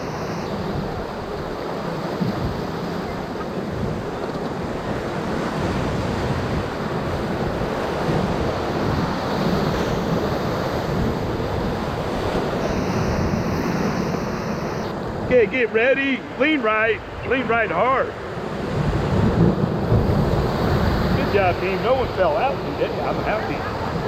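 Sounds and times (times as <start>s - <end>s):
whitewater rushing: 0.0s - 24.0s
wind buffeting microphone: 0.4s - 17.4s, 18.2s - 24.0s.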